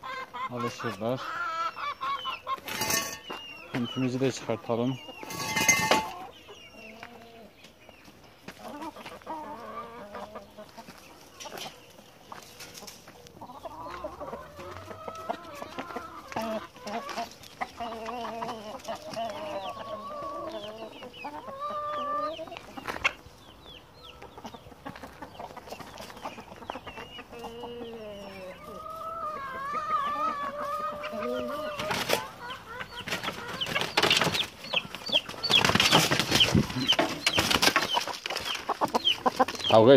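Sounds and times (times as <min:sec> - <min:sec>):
hens and rooster clucking: 0:00.0 - 0:39.9.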